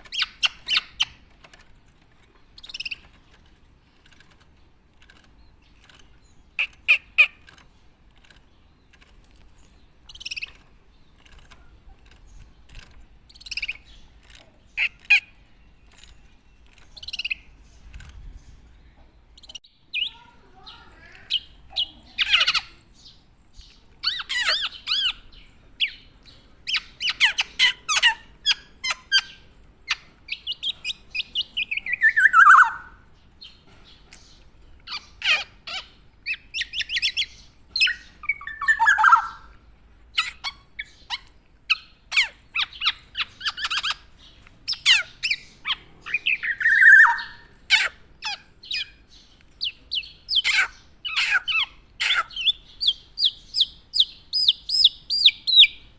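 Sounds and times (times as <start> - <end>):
bird chirping and singing: 0.0 - 55.9.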